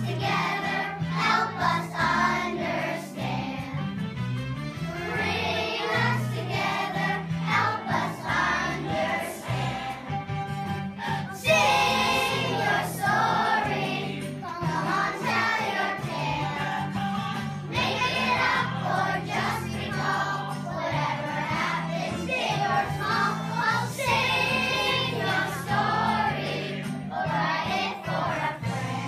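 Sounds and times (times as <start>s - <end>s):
several voices singing: 0.0s - 3.8s, 5.0s - 29.0s.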